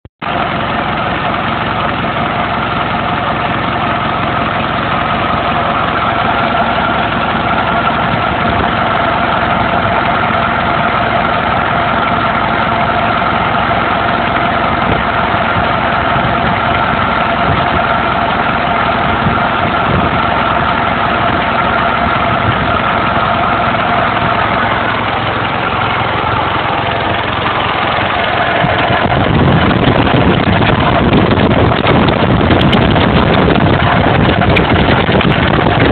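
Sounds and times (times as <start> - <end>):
diesel engine idling: 0.2 - 35.9
engine blow-by puffing: 0.2 - 35.9.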